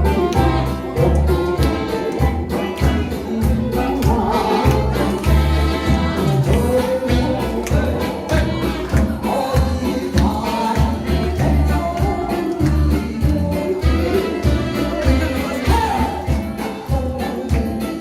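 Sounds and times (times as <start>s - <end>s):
heavy bass and drum beat: 0.0s - 18.0s
person singing: 0.0s - 18.0s.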